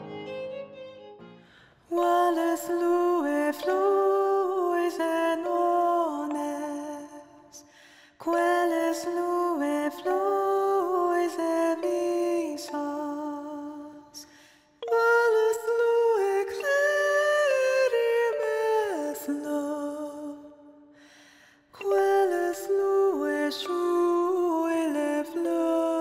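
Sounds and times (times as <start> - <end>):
woman singing softly: 1.9 - 20.8, 21.8 - 26.0.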